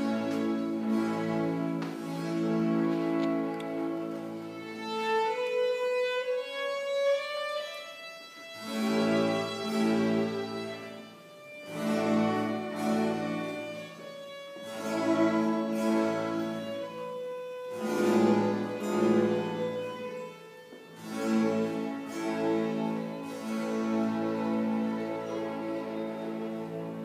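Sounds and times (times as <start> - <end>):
string ensemble playing classical: 0.0 - 27.0.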